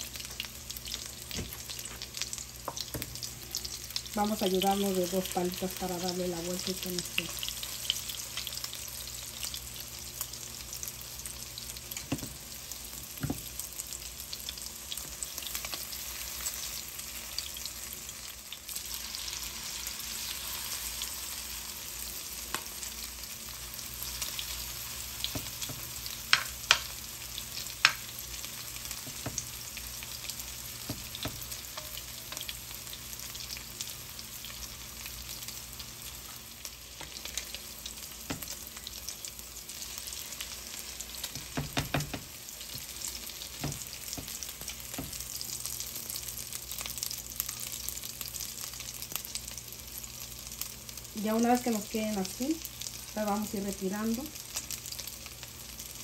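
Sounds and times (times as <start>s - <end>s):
fritters sizzling in hot oil: 0.0s - 56.0s.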